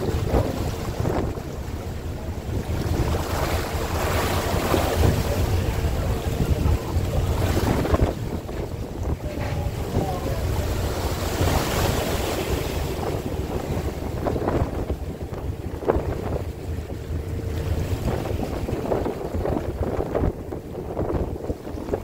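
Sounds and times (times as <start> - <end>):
boat low rumble: 0.0 - 22.0
wind buffeting microphone: 0.0 - 22.0.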